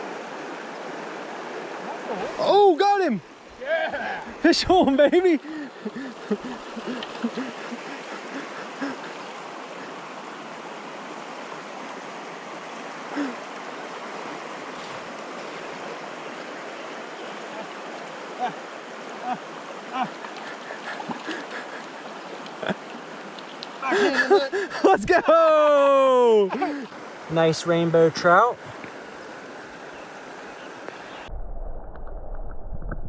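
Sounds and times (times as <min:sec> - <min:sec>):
river rushing over shallows: 0:00.0 - 0:31.3.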